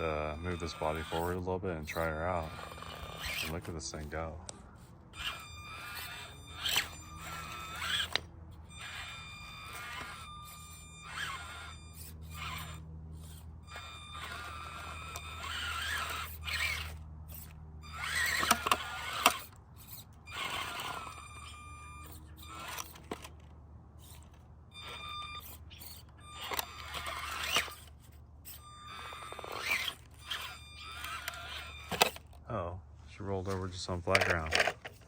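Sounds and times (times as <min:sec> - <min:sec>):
small electric motor whine: 0:00.0 - 0:35.0
tires scraping: 0:00.0 - 0:35.0.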